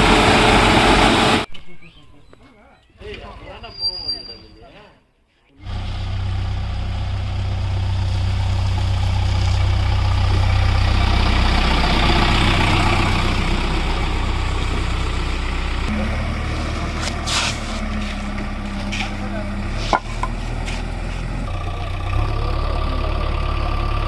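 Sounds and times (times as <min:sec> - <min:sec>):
heavy diesel engine running: 0:00.0 - 0:01.5, 0:05.6 - 0:24.0.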